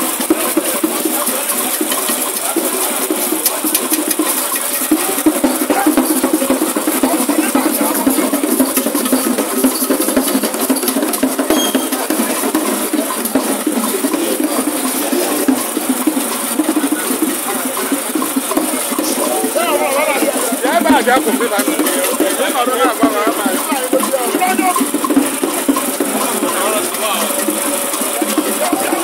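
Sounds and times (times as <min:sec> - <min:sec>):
crowd of voices: 0:00.0 - 0:29.0
drum and percussion music: 0:00.0 - 0:29.0.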